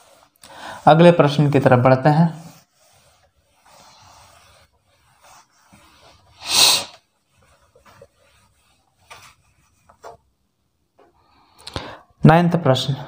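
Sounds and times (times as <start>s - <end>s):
hand wiping whiteboard: 0.0s - 11.5s.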